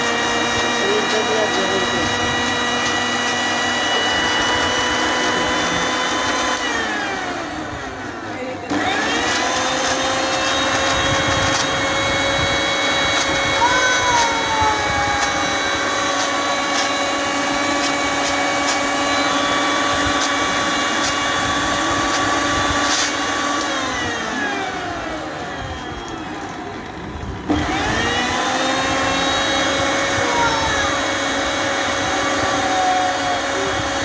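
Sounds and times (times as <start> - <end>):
mixer grinder motor whine: 0.0 - 34.0.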